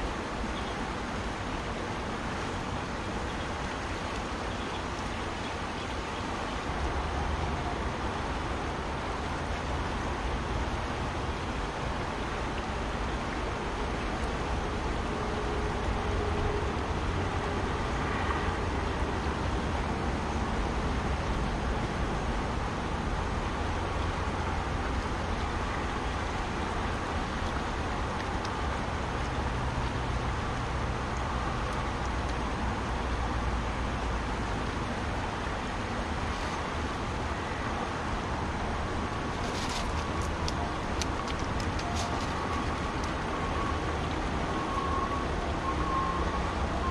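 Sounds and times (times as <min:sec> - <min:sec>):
fast-flowing river rushing: 0:00.0 - 0:46.9.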